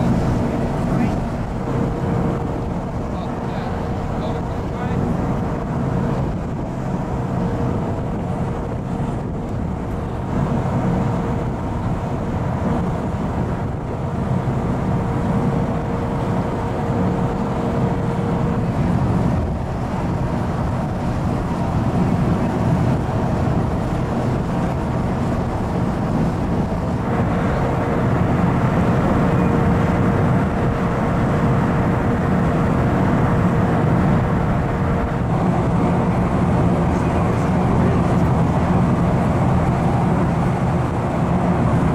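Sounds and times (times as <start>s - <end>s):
ferry engines droning: 0.0s - 41.9s
wind: 0.0s - 41.9s.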